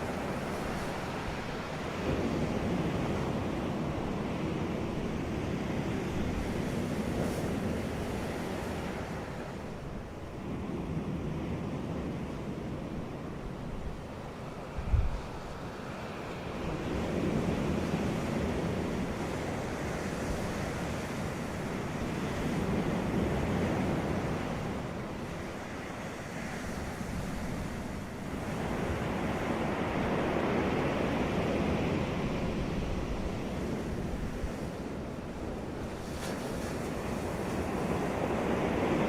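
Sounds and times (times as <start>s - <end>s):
sea waves breaking on beach: 0.0s - 39.0s.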